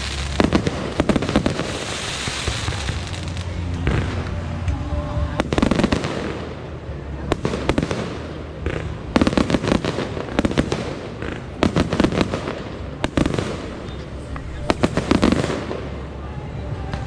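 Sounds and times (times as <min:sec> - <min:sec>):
firecrackers cracking: 0:00.0 - 0:17.0.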